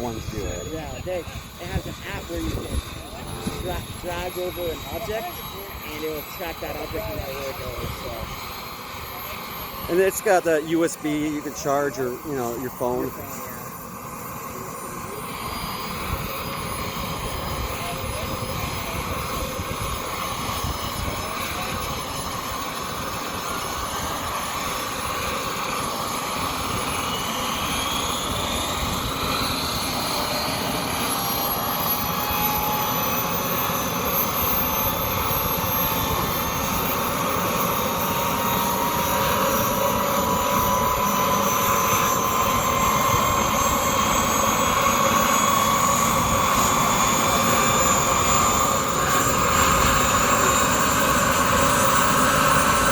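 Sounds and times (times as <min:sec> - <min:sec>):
helicopter turbine whine: 0:00.0 - 0:52.9.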